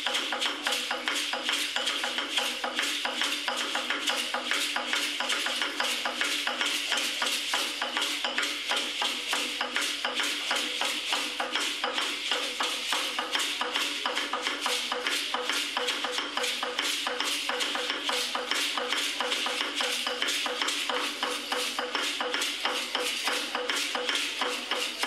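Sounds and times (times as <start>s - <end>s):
light percussion: 0.0s - 25.0s
rattles shaken rhythmically: 0.0s - 25.0s.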